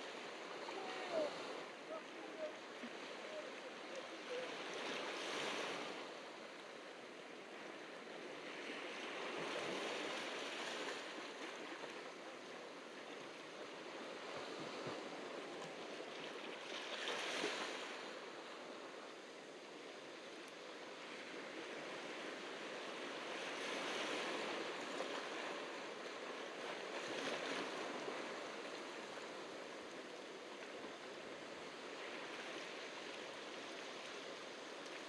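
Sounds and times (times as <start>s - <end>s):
ocean surf breaking on beach: 0.0s - 35.0s.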